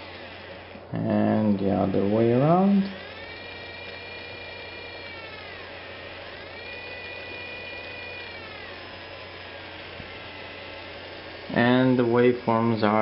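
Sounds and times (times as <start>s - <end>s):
low mains hum: 0.0s - 13.0s
small motor whining: 0.0s - 13.0s.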